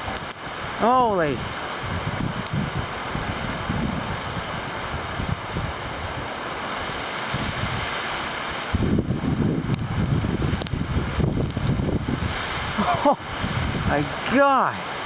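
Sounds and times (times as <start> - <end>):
heavy rain pouring: 0.0 - 15.0
wind gusting on microphone: 0.0 - 15.0.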